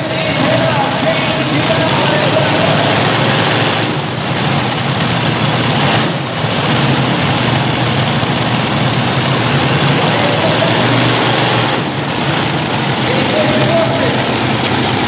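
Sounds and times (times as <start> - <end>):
tractor engines idling: 0.0 - 15.0.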